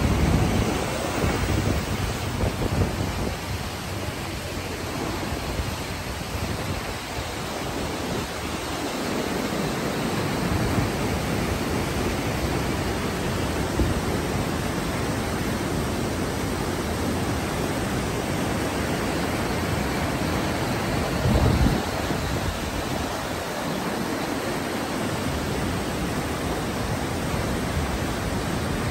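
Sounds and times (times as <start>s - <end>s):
rapids rushing over boulders: 0.0s - 28.9s.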